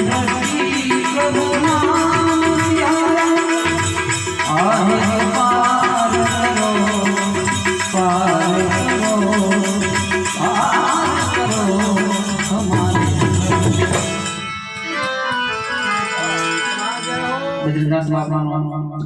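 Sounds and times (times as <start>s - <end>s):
rattling hand percussion: 0.0s - 17.9s
harmonium melody: 0.0s - 18.3s.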